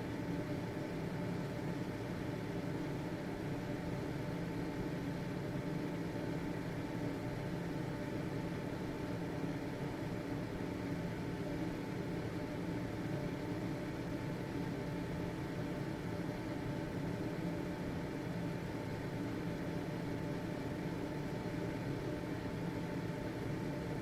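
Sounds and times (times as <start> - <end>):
ventilation fan humming: 0.0 - 24.0.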